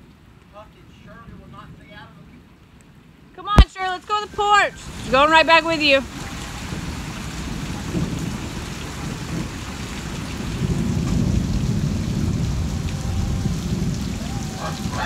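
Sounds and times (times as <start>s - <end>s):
heavy rain falling: 0.1s - 15.0s.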